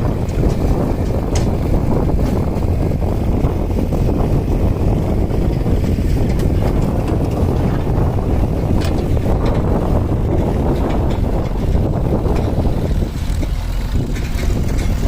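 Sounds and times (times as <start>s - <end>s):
diesel machinery rumbling: 0.0s - 15.0s
wind buffeting microphone: 0.0s - 15.0s.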